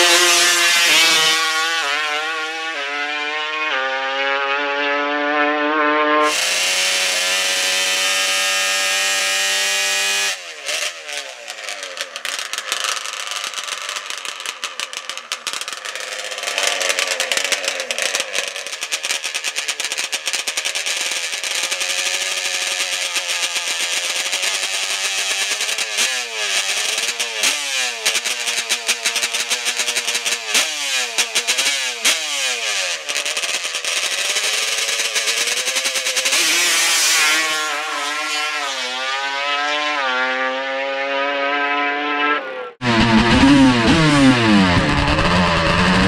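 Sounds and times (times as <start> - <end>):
two-stroke engine revving: 0.0 - 46.0.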